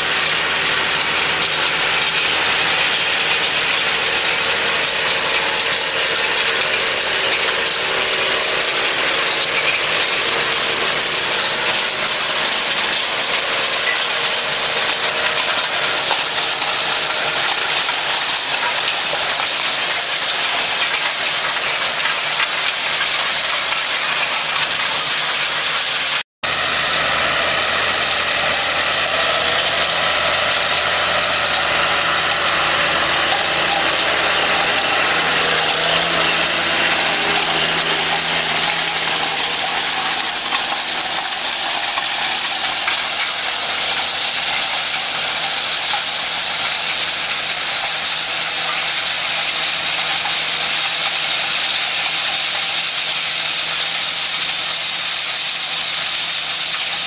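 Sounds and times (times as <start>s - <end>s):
tractor engine under load: 0.0s - 54.5s
loud constant hiss: 0.0s - 57.0s.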